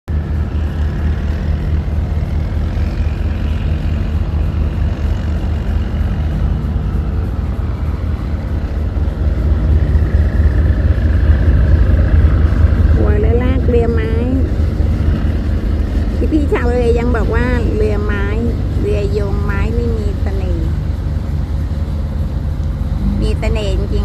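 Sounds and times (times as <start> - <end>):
motorboat engine humming: 0.0 - 24.0.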